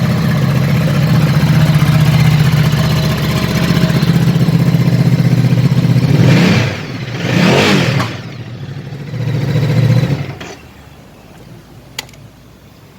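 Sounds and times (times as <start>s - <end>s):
engine revving: 0.0s - 10.6s
motorcycle engine idling: 0.0s - 12.2s.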